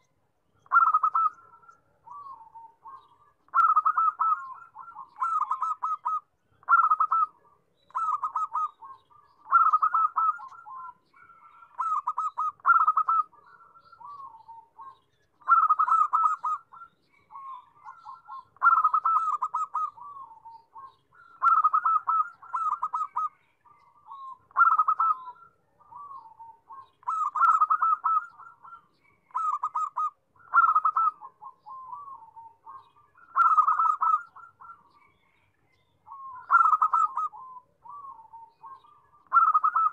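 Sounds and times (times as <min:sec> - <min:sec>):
dove cooing in rolling staccato: 0:00.0 - 0:35.4, 0:36.0 - 0:39.9.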